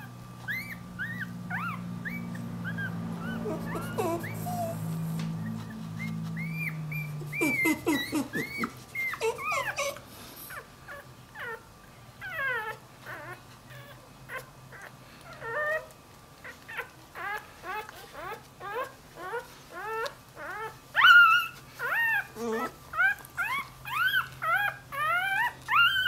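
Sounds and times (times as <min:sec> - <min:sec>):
newborn puppy whimpering: 0:00.0 - 0:26.0.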